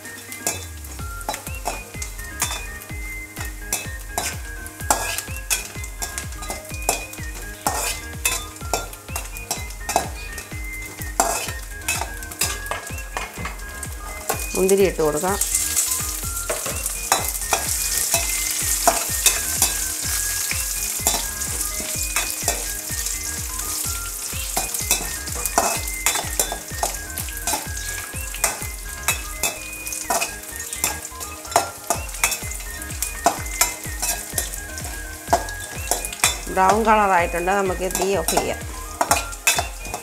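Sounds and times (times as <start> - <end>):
nuts sizzling in oil: 0.0 - 40.0
steel spoon scraping wok: 0.2 - 2.8, 3.6 - 10.4, 11.2 - 14.6, 15.4 - 36.7, 37.9 - 40.0.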